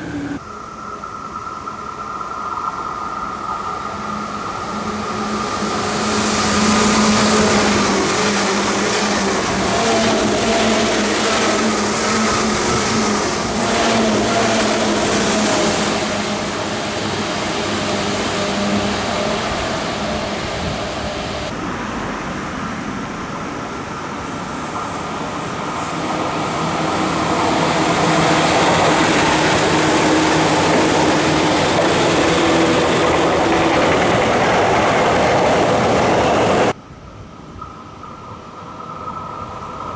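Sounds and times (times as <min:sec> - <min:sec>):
electric train motor whine: 0:00.0 - 0:36.8
train rumble: 0:00.0 - 0:39.9.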